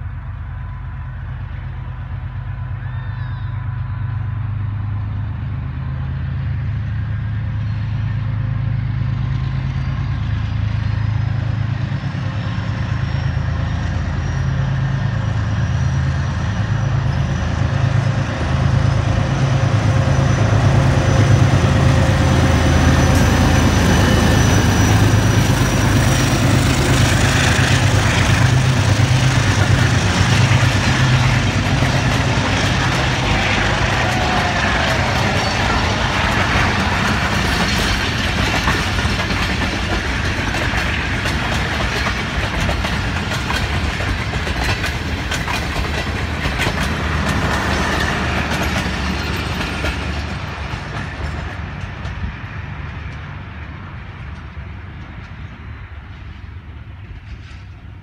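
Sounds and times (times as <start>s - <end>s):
diesel locomotive engine throbbing: 0.0s - 58.0s
train coaches rumbling on rails: 0.0s - 58.0s.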